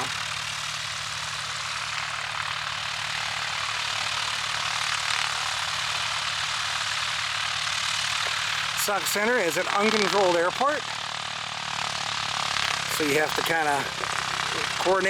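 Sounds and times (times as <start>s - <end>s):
propeller airplane engine drone: 0.0s - 15.0s.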